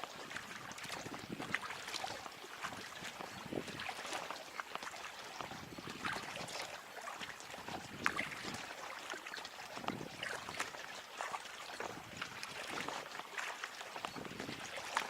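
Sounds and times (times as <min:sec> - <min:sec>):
paddle splashing in water: 0:00.0 - 0:15.0.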